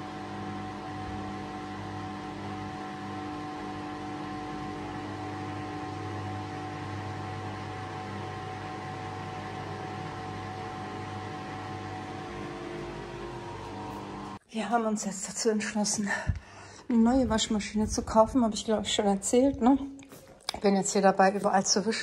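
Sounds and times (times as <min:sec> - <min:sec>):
washing machine motor hum: 0:00.0 - 0:14.4, 0:15.6 - 0:22.0.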